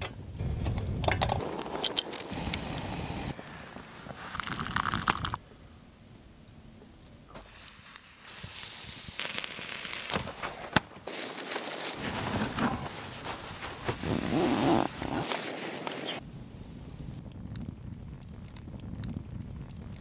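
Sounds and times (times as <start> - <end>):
fire popping: 0.0 - 5.4, 6.9 - 20.0
campfire crackling and hissing: 0.2 - 20.0.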